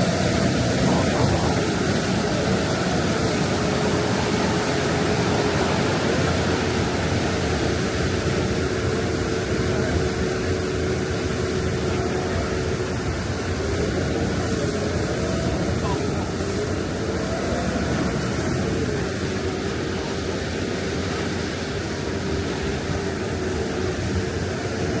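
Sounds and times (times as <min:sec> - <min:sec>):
boat engine and water rushing: 0:00.0 - 0:25.0
faint steady whine: 0:00.0 - 0:25.0.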